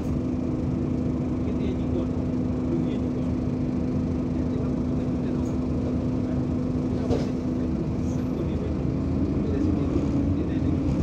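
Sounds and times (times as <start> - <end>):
bus diesel engine drone: 0.0 - 11.0.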